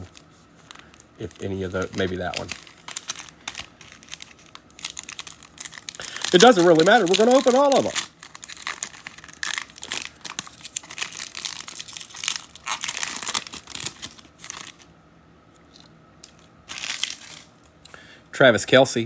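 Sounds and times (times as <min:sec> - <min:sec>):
foil packs tearing and crinkling: 0:00.0 - 0:14.9, 0:16.3 - 0:17.7.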